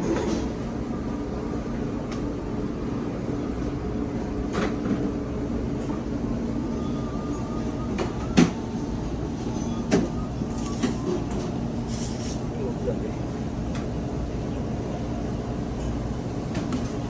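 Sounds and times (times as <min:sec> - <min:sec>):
kitchen machine hum: 0:00.0 - 0:17.0.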